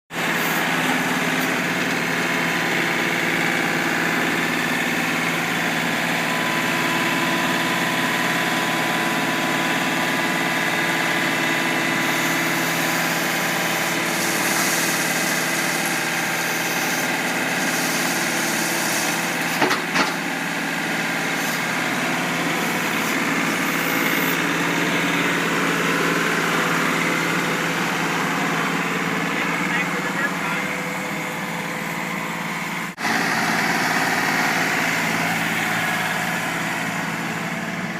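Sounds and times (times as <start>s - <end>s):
tractor engine running: 0.1s - 37.9s.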